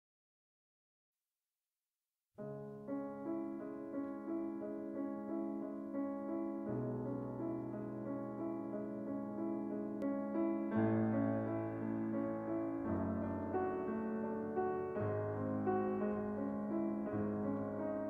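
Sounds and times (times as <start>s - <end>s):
slow piano music: 2.4s - 18.0s.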